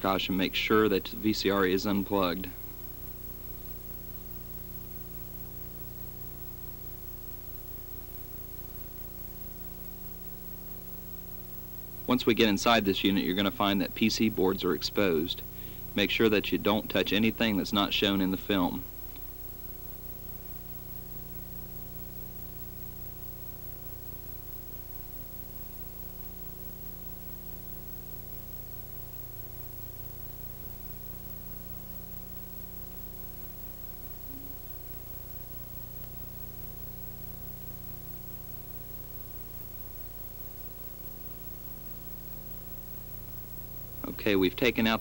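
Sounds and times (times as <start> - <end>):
low electrical hum: 0.0 - 45.0
tape hiss: 0.0 - 45.0.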